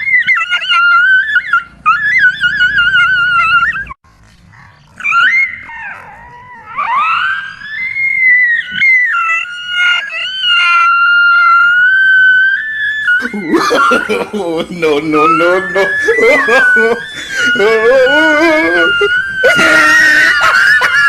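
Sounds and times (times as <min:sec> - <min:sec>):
dog howling: 0:00.0 - 0:04.0, 0:05.0 - 0:14.2, 0:14.8 - 0:21.0.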